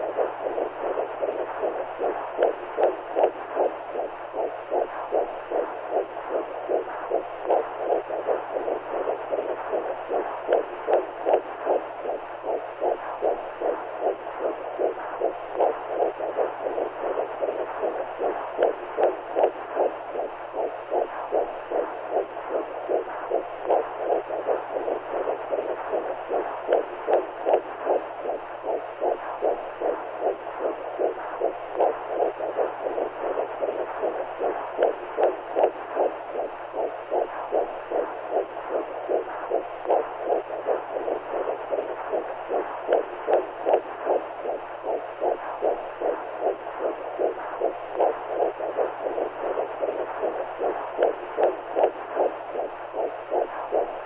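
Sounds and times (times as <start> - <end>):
pulsing womb whooshing noise: 0.0 - 54.0.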